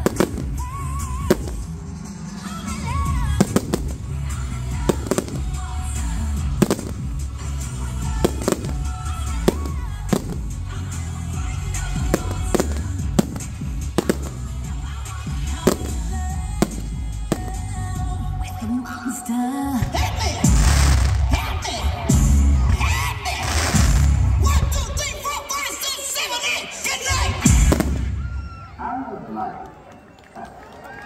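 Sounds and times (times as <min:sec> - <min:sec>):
fireworks bangs: 0:00.0 - 0:11.0, 0:11.7 - 0:18.4, 0:19.7 - 0:25.4, 0:27.0 - 0:28.6
music with heavy bass: 0:00.0 - 0:25.4, 0:26.9 - 0:28.2.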